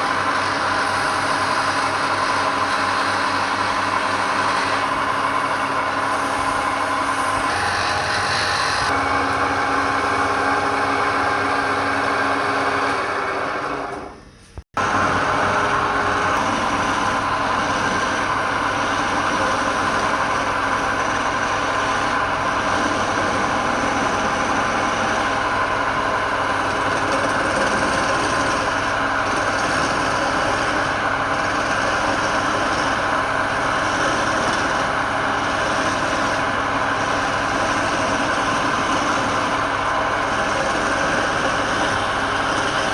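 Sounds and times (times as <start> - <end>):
wood lathe humming: 0.0 - 14.2, 14.8 - 42.9.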